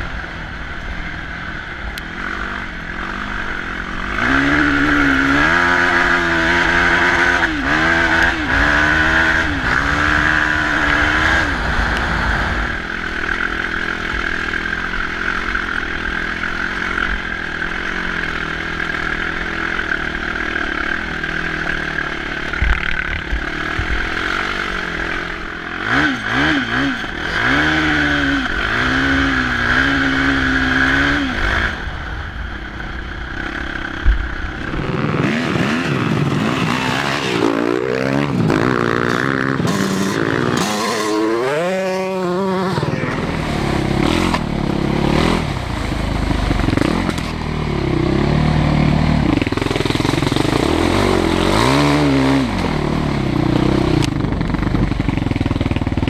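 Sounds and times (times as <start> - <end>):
quad bike engine revving: 0.0 - 56.0
rush of noise: 0.0 - 56.0.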